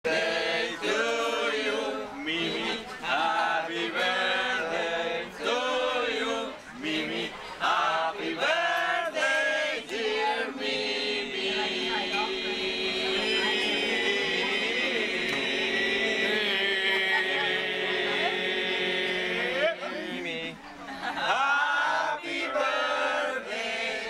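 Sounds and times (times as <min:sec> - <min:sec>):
men singing together: 0:00.0 - 0:20.6, 0:21.2 - 0:24.0.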